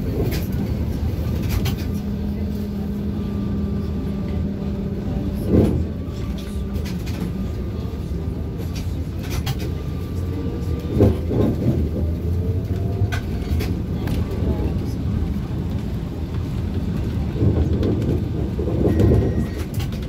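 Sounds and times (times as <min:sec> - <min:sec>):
trolleybus cabin rumble: 0:00.0 - 0:20.0.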